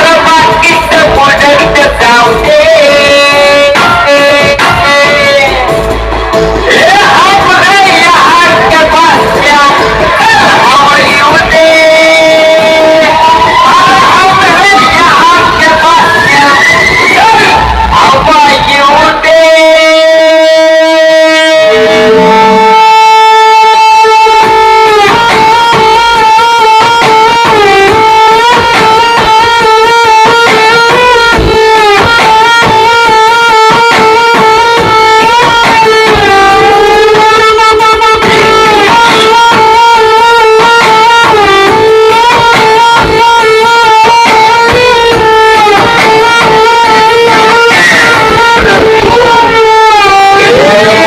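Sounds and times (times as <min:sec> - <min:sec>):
fast beat: 0:00.0 - 0:20.7, 0:21.6 - 0:51.0
lead melody holding long notes: 0:00.0 - 0:51.0.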